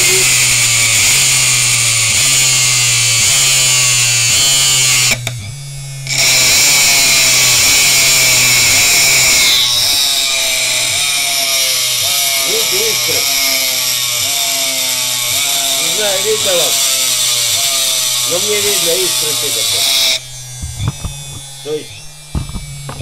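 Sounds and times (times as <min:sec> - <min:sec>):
electric motor humming: 0:00.0 - 0:23.0
relay pulsing motor: 0:00.0 - 0:23.0
screwdriver scraping spinning shaft: 0:00.0 - 0:23.0.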